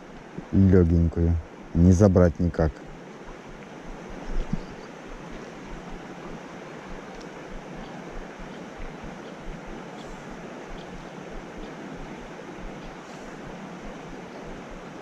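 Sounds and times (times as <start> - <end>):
river water rushing over rapids: 2.8 - 15.0.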